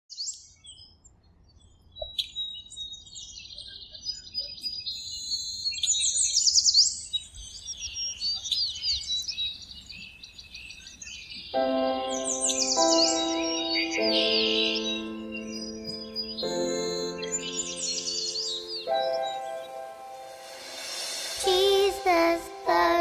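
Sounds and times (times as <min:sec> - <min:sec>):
birds singing and chirping: 0:01.6 - 0:20.7.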